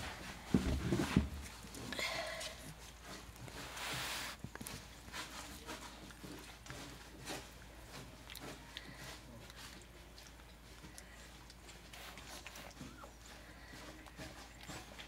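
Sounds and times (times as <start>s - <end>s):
puppies scuffling: 0.0s - 15.0s.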